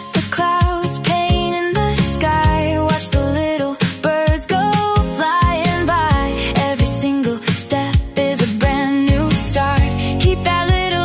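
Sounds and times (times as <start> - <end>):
upbeat pop music: 0.0 - 11.0.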